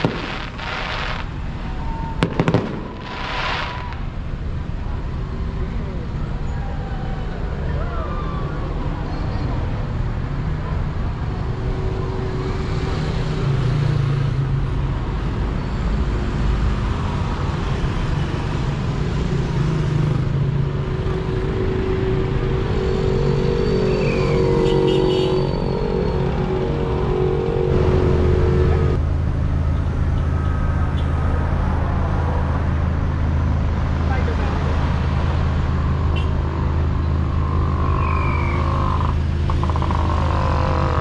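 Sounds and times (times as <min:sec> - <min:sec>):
road traffic noise: 0:00.0 - 0:41.0
vehicle engines running: 0:00.0 - 0:41.0.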